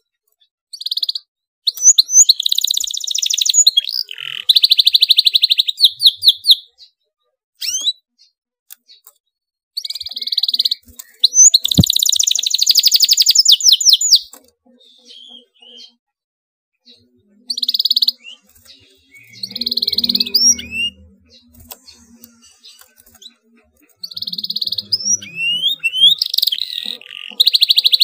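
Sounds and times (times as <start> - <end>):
canary singing with trills: 0.3 - 7.0, 7.6 - 9.2, 9.8 - 16.0, 16.8 - 28.0.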